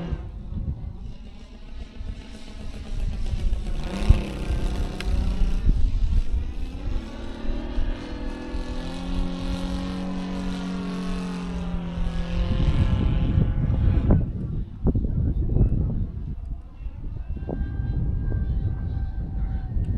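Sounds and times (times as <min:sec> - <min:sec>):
model airplane engine running: 0:00.0 - 0:19.9
rough low rumble: 0:00.0 - 0:19.9.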